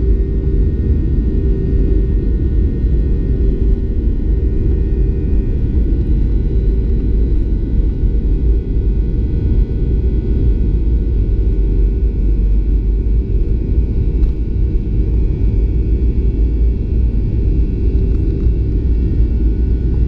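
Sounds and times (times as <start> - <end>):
deep rumble of plane engines: 0.0 - 20.0
faint engine tones: 0.0 - 20.0.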